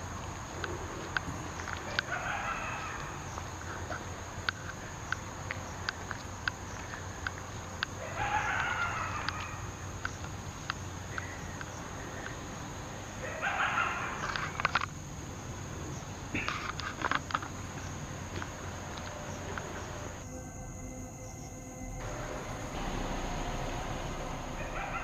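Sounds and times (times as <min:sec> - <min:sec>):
harsh raspy animal calls: 0:00.0 - 0:20.6, 0:22.0 - 0:25.0
high insect drone: 0:00.0 - 0:25.0.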